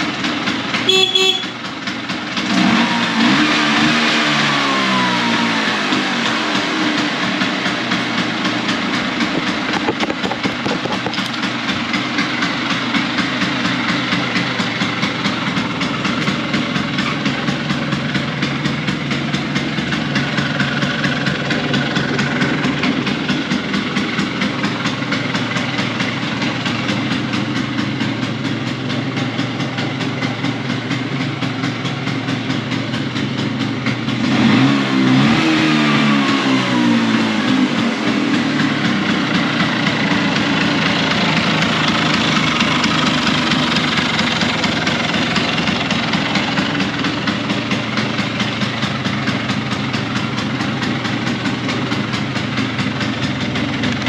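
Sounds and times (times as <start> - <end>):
scooter engine idling: 0.0 - 54.0.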